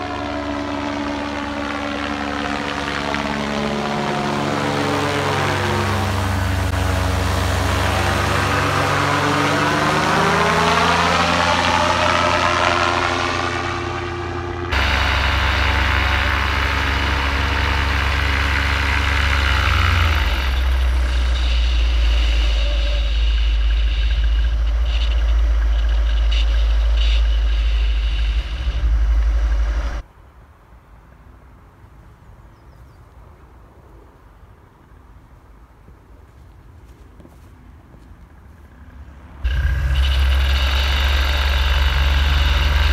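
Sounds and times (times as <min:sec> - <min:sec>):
paramotor engine and propeller: 0:00.0 - 0:30.0, 0:36.9 - 0:42.9.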